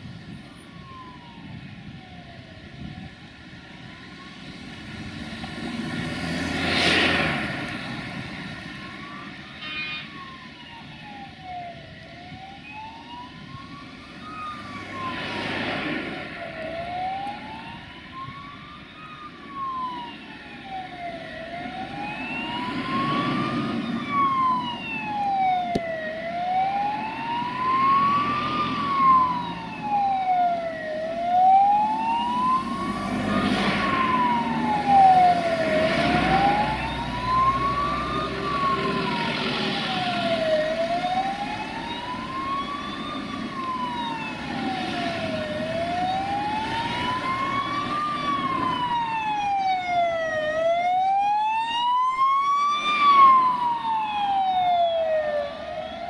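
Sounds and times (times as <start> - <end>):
emergency siren wailing: 0.0 - 56.0
passing vehicles rushing: 0.0 - 56.0.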